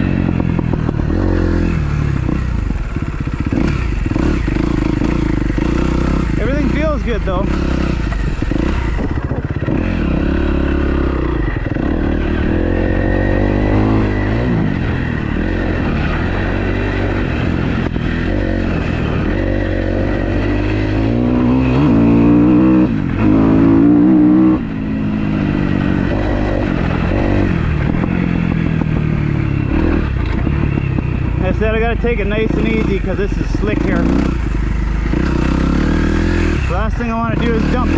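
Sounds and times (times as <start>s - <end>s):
motocross engine revving: 0.0s - 37.9s.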